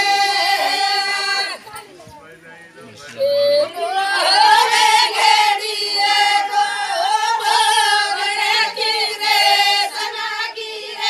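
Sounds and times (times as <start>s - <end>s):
women singing without instruments: 0.0s - 1.7s, 3.4s - 11.0s.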